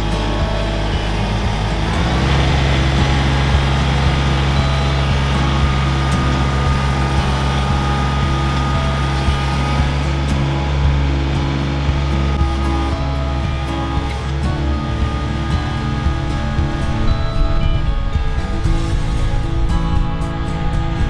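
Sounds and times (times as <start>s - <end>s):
tractor engine under load: 0.0s - 21.0s.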